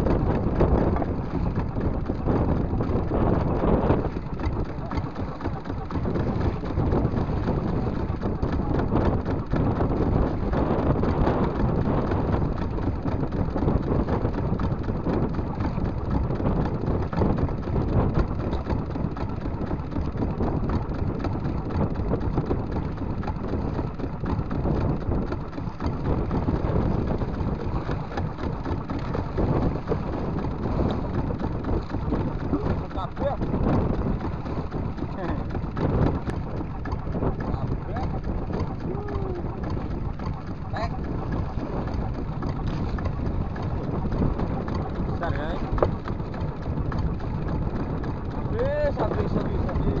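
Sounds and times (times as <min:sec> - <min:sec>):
choppy sea: 0:00.0 - 0:50.0
wind buffeting microphone: 0:00.0 - 0:50.0.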